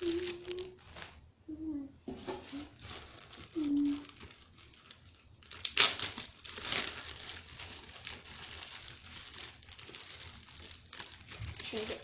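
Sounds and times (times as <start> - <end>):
plastic packaging crinkling: 0.0 - 1.3, 2.1 - 12.0.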